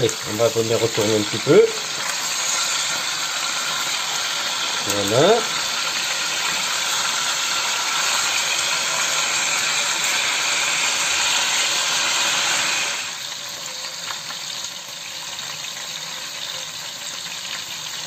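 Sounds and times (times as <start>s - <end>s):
meat sizzling in a pot: 0.0s - 18.0s.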